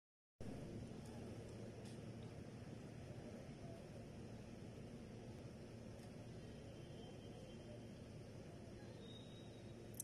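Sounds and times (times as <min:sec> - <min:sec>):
low rumble with light hiss: 0:00.4 - 0:10.0.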